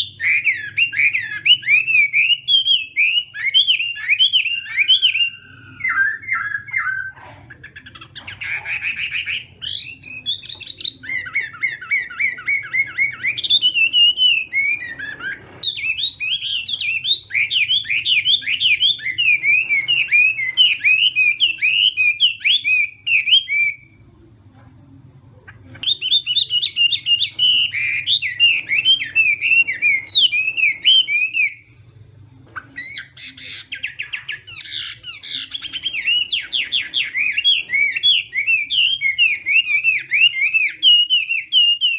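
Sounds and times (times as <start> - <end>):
bird singing whistled phrases: 0.0 - 7.2, 8.9 - 23.9, 25.8 - 31.6, 32.6 - 41.9.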